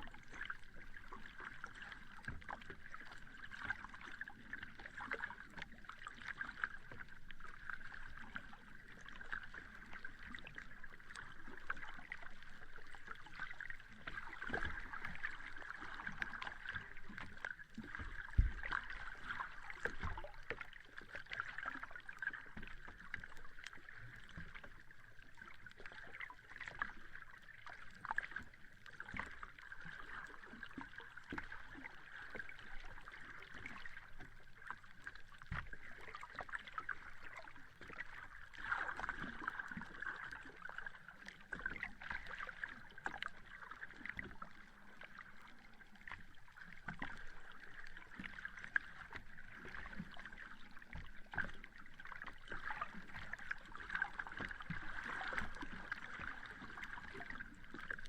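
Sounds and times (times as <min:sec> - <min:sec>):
sea water lapping at shore: 0:00.0 - 0:58.0.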